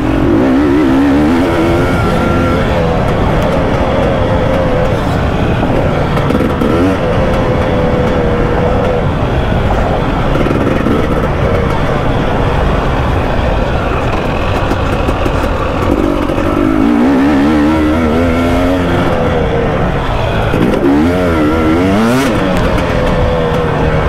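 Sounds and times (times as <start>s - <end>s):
constant rush of noise: 0.0s - 24.0s
motorcycle engine revving: 0.0s - 24.0s.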